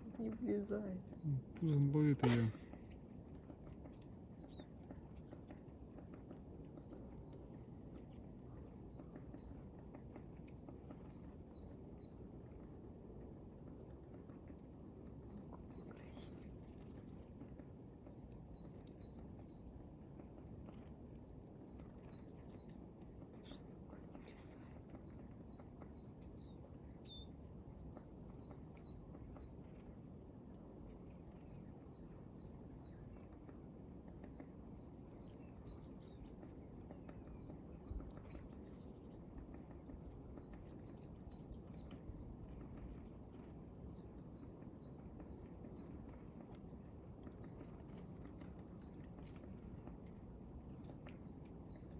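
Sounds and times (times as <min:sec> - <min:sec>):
small bird chirping: 0:00.0 - 0:12.6, 0:13.9 - 0:51.9
low background rumble: 0:00.0 - 0:51.9.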